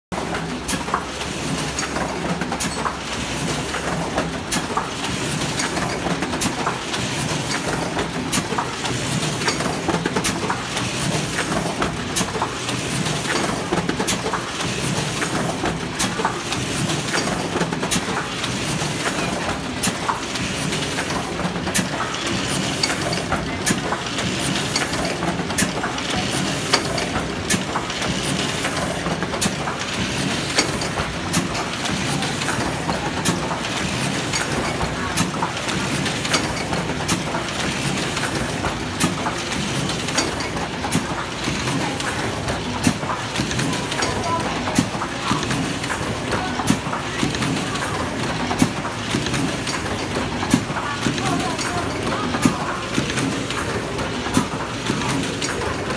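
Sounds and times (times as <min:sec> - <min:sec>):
printing press clattering: 0:00.1 - 0:55.9.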